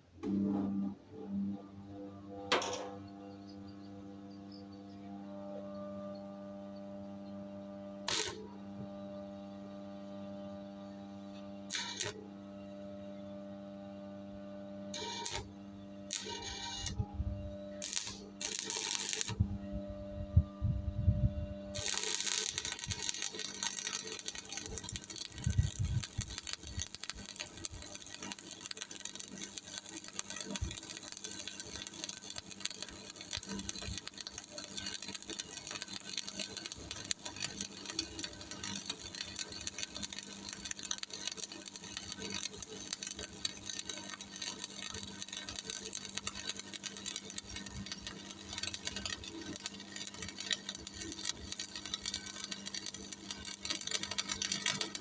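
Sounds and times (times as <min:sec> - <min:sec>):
welding arc crackling: 0:05.2 - 0:55.0.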